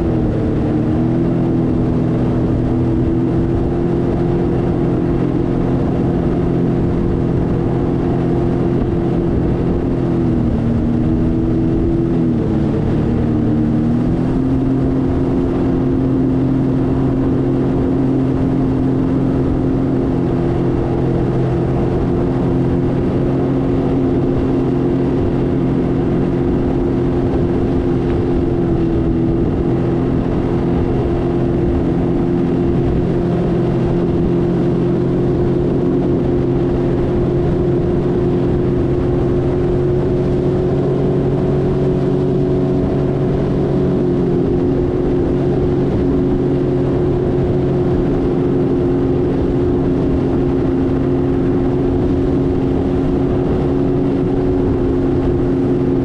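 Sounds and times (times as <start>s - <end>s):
watercraft engine running: 0.0s - 56.0s
wind and water rushing: 0.0s - 56.0s.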